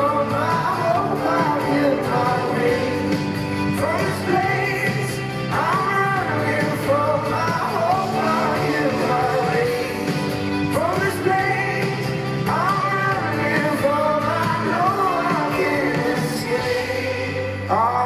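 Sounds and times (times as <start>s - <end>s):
band playing: 0.0s - 18.0s
man singing: 0.0s - 18.0s.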